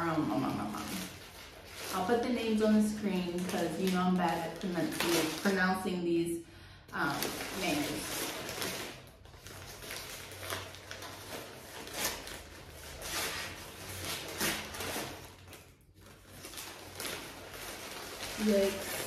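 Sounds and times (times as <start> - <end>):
packing paper rustling: 0.0 - 6.0, 7.0 - 19.0.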